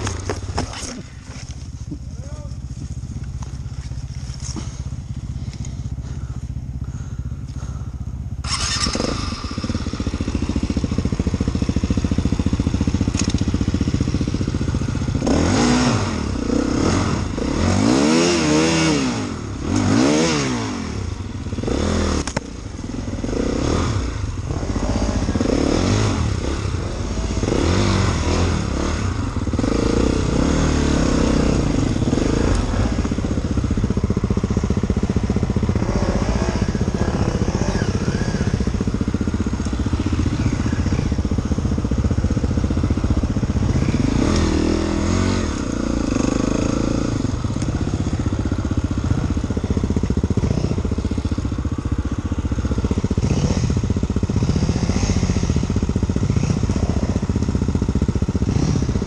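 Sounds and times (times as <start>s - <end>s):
dirt bike engine revving: 8.4s - 59.0s.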